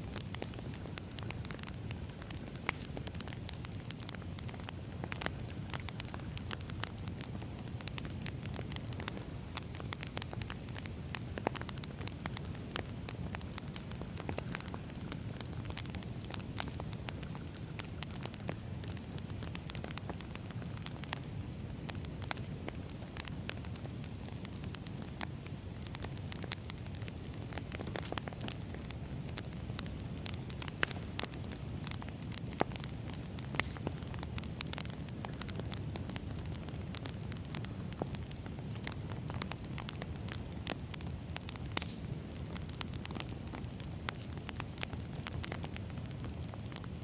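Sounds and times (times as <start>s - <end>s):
logs crackling and popping: 0.0s - 47.0s
rumble of flames: 0.0s - 47.0s.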